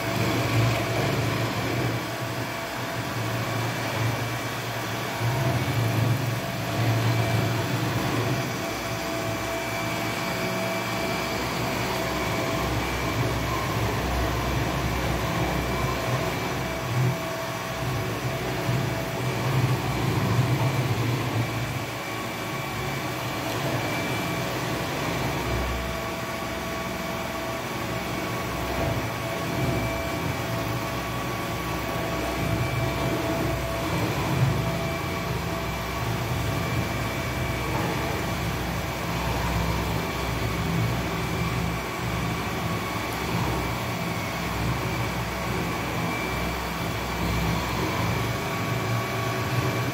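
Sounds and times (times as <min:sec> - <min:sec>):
robot vacuum cleaner running: 0:00.0 - 0:49.9.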